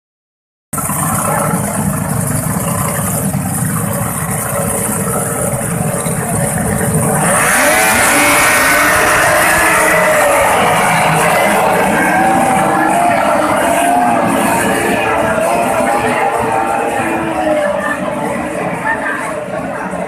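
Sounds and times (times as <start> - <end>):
outboard motors revving: 0.8 - 20.0.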